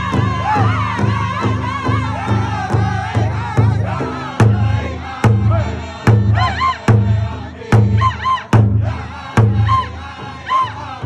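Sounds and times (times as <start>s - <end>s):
large drum beaten in unison: 0.0s - 11.0s
men and women singing: 0.0s - 11.0s.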